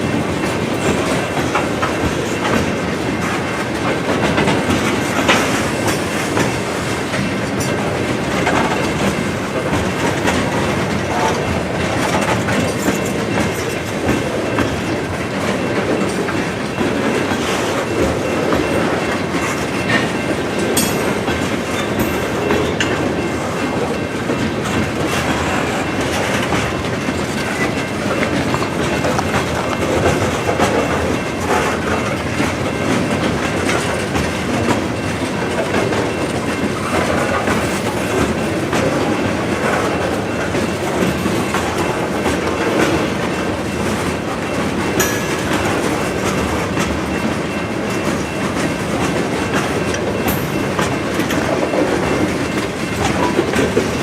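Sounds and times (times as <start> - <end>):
train wheels clickety-clack: 0.0 - 54.0.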